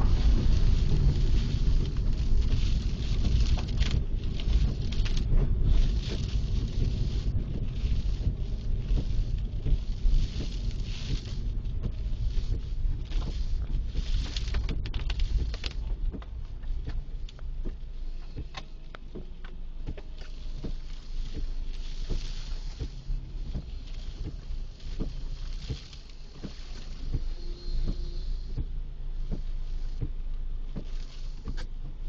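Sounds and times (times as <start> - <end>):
road and wind noise: 0.0 - 32.0.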